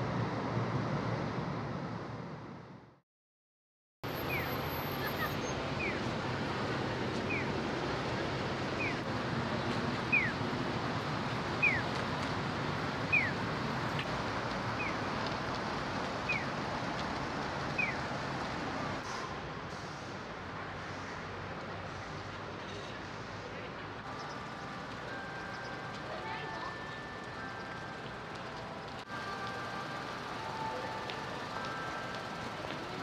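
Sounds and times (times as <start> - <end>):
street traffic: 0.0 - 3.0, 4.0 - 33.0.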